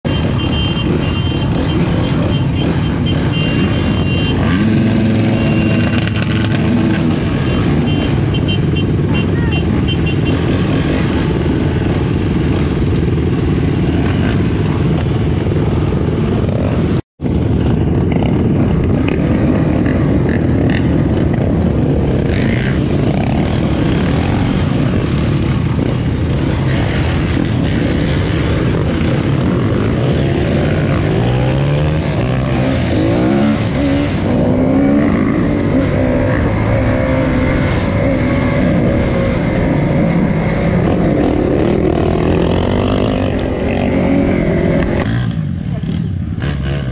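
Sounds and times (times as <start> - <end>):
motorcycle engine revving: 0.1 - 46.9.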